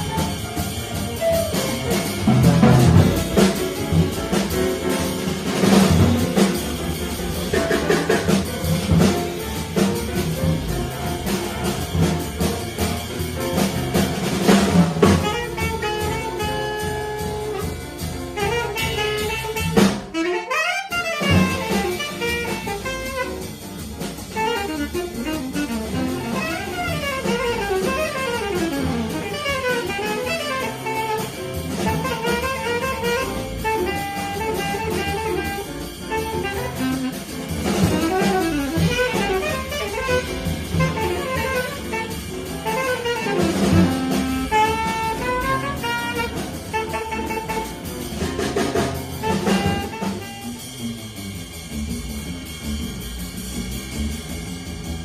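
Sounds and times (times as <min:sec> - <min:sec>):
alto saxophone fast runs: 0:00.0 - 0:55.0
double bass: 0:00.0 - 0:55.0
drum kit: 0:00.0 - 0:55.0
piano: 0:00.0 - 0:55.0.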